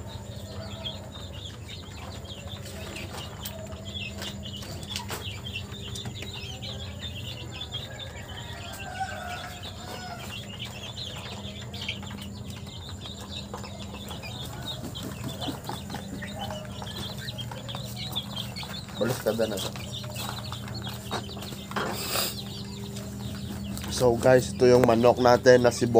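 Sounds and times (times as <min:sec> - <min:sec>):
chickens clucking: 0:00.0 - 0:25.9
steady low hum: 0:00.0 - 0:25.9.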